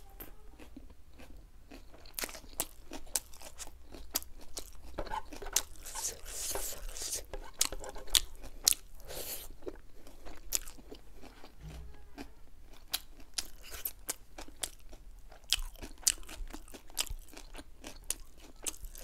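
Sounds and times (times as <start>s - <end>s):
wet chewing and lip smacks: 1.2s - 11.6s, 12.7s - 19.0s.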